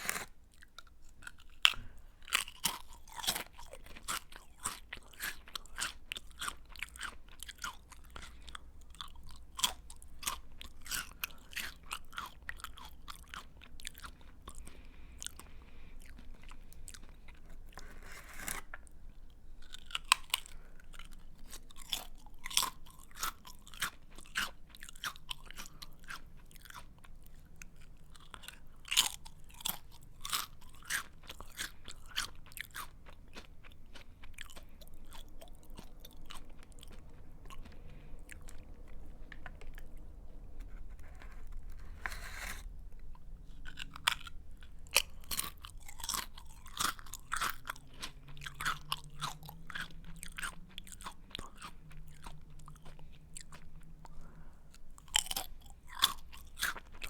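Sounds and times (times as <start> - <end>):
person chewing crunchy snack: 0.0 - 57.0.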